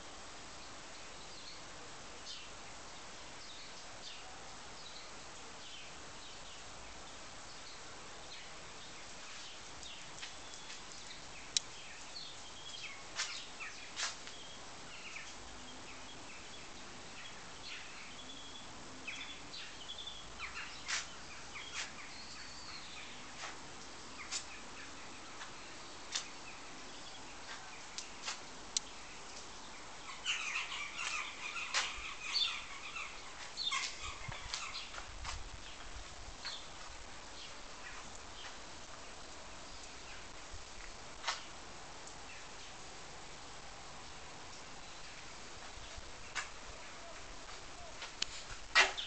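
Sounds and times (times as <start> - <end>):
small birds chirping: 0.6 - 49.0.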